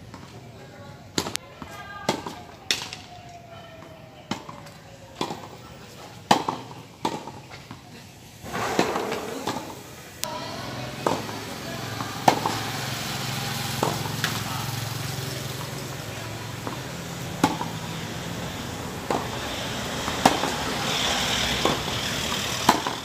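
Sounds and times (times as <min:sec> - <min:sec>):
tennis balls hit and bouncing: 0:00.0 - 0:00.5, 0:01.1 - 0:03.2, 0:03.8 - 0:23.0.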